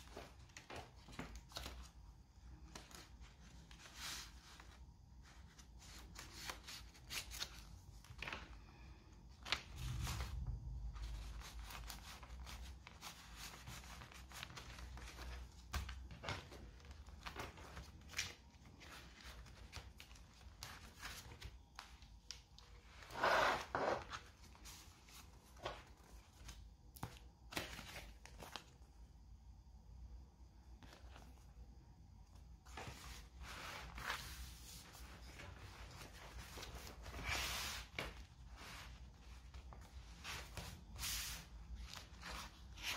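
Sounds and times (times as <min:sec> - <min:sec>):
paper pages rustling: 0:00.0 - 0:28.8, 0:32.4 - 0:42.9.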